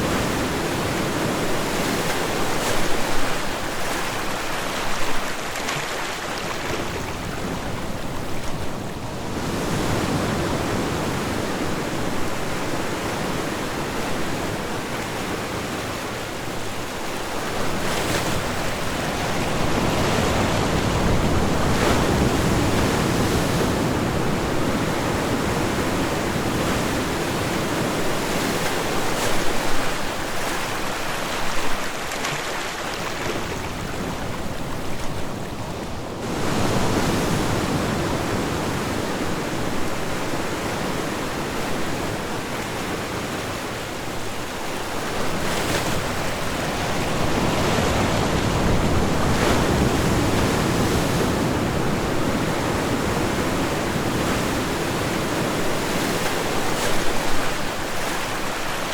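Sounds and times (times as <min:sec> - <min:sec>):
ocean waves breaking on shore: 0:00.0 - 0:58.9
wind on microphone: 0:06.6 - 0:30.8, 0:33.2 - 0:58.9.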